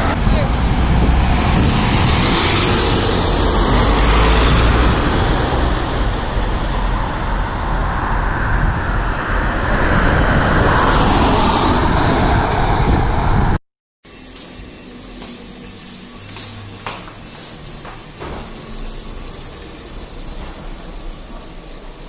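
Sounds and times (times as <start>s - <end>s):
vehicle road noise: 0.0s - 22.0s.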